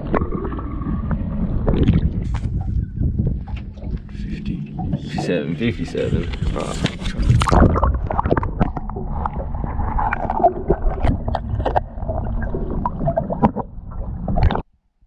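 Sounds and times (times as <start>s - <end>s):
muffled water sloshing: 0.0s - 14.7s.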